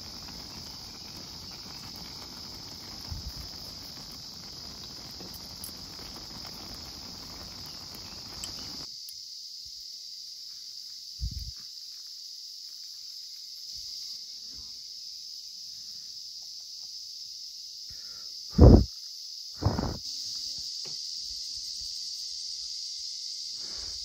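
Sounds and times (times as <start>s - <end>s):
cicadas droning: 0.0s - 24.0s.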